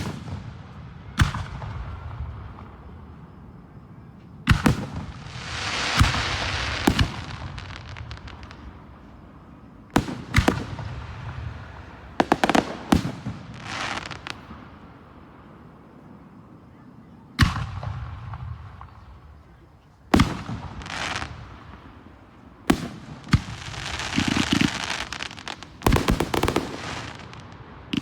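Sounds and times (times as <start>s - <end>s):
fireworks bangs: 0.0s - 28.0s
fizzing crackle of fireworks: 0.0s - 28.0s.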